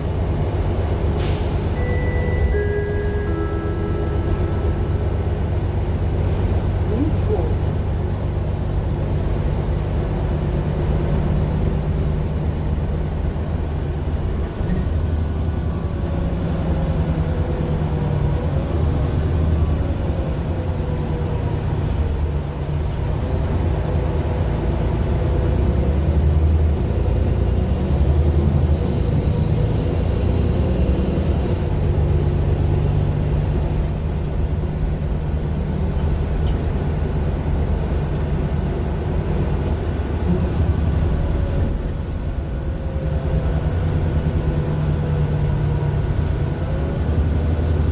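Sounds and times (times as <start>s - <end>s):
bus diesel engine drone: 0.0s - 47.9s.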